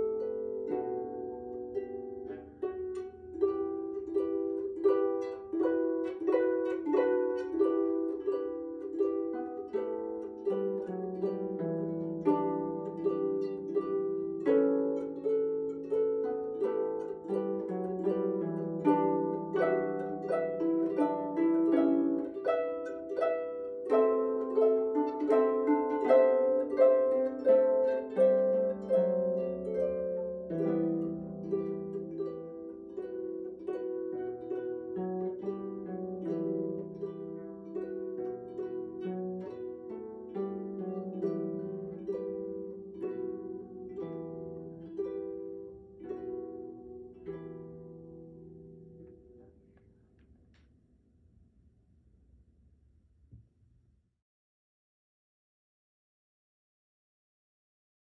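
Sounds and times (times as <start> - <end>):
harp melody: 0.0 - 50.0.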